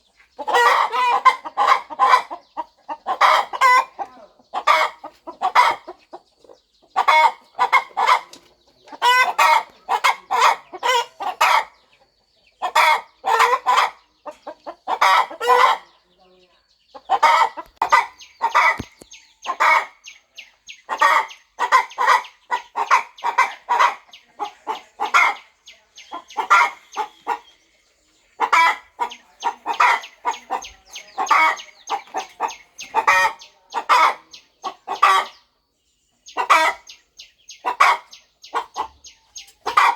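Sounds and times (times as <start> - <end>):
hen clucking: 0.0 - 39.9.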